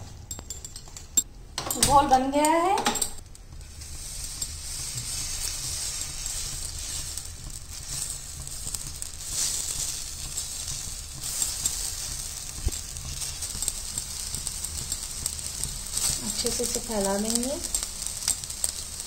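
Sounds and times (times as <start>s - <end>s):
batter sizzling on hot griddle: 3.3s - 19.0s.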